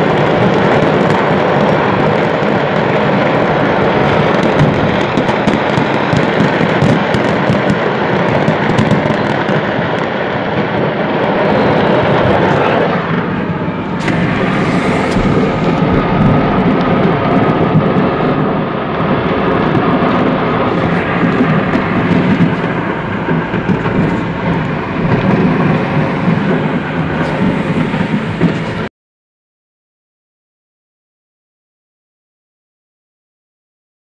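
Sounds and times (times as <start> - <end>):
fireworks booming and crackling: 0.0 - 28.9
road noise from moving car: 0.0 - 28.9.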